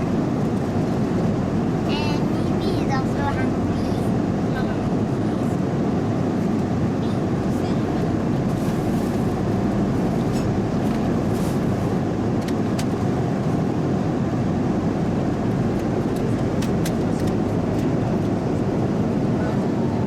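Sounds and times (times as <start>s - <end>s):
airliner cabin noise: 0.0s - 20.0s.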